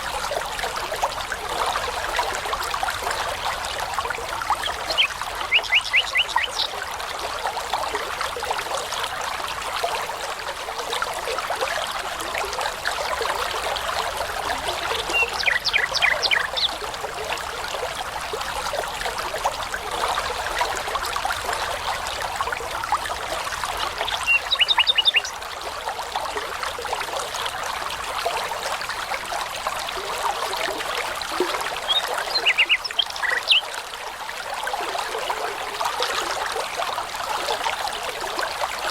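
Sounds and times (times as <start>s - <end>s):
brook burbling: 0.0s - 38.9s.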